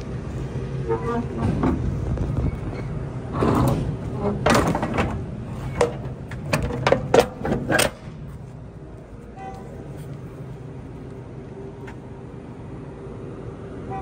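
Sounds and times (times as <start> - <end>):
truck idling hum: 0.0 - 14.0.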